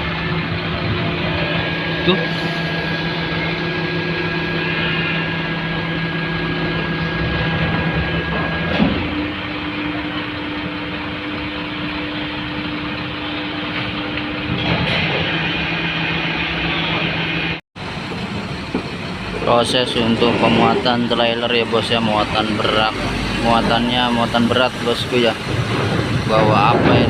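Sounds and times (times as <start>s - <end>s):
heavy diesel engines droning: 0.0s - 27.0s.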